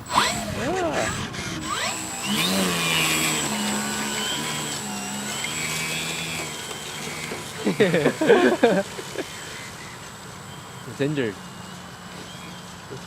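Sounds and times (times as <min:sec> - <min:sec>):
model airplane motor buzzing: 0:00.0 - 0:13.0.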